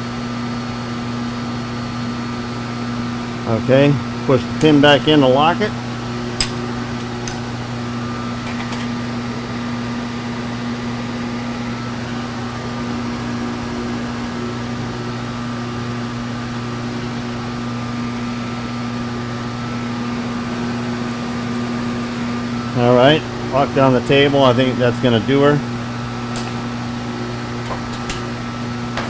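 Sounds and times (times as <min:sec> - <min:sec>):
electric motor humming: 0:04.4 - 0:29.0.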